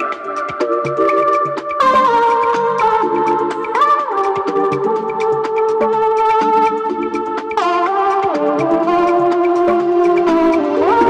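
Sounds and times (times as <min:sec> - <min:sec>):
fast ticking beat: 0:00.0 - 0:11.0
held synthesizer chords: 0:00.0 - 0:11.0.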